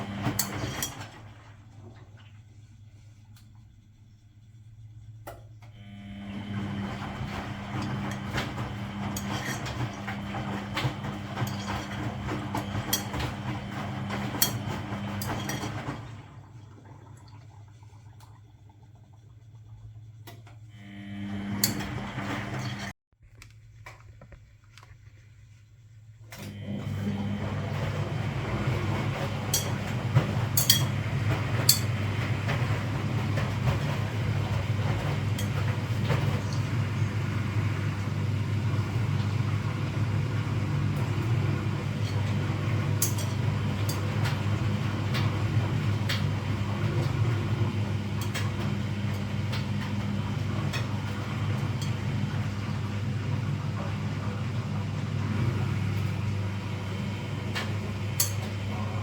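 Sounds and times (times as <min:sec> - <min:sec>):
washing machine humming and rumbling: 0:00.0 - 0:59.0.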